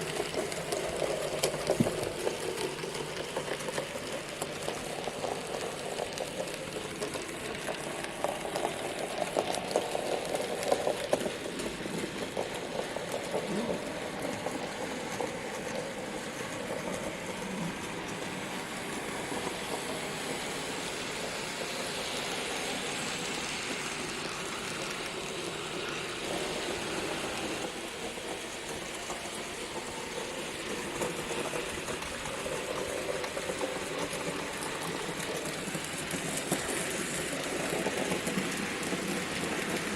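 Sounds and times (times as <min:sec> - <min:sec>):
train wheels rattling on rails: 0:00.0 - 0:39.9.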